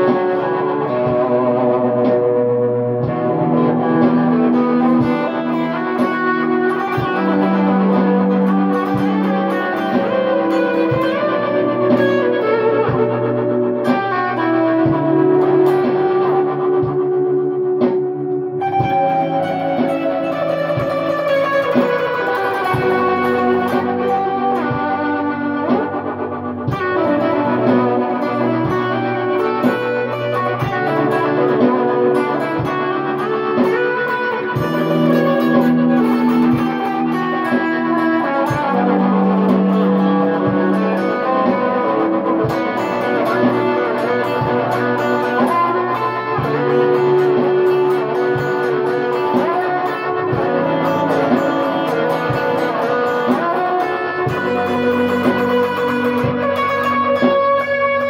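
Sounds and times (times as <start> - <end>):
ambient electric guitar: 0.0 - 58.0.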